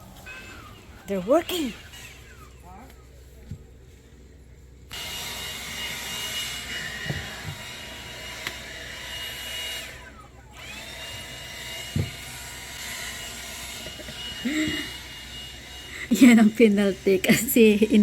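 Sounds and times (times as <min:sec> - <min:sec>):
vacuum cleaner whining: 0:00.0 - 0:03.7, 0:04.8 - 0:18.0.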